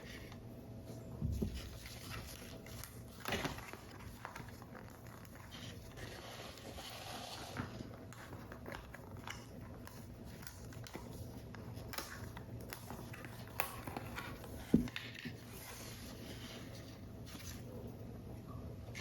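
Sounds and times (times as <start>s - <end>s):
paper rustling: 1.2s - 17.8s.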